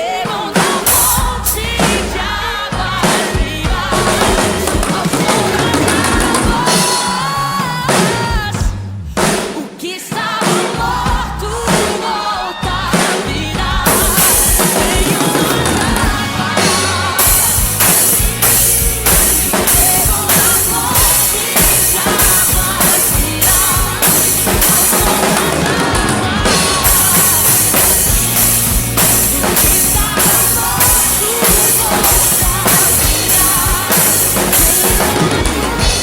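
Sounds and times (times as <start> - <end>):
drum kit beat: 0.0 - 36.0
gospel pop song: 0.0 - 36.0.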